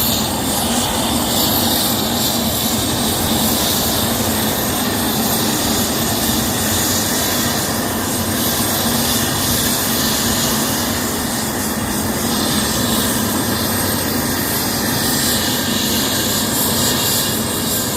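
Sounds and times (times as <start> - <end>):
jet engines running: 0.0 - 17.9.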